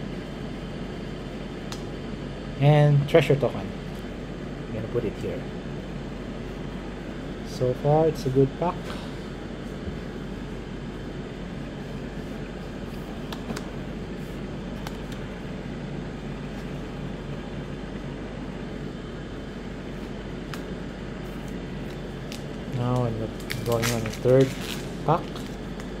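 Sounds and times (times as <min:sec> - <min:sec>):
background hum and hiss: 0:00.0 - 0:26.0.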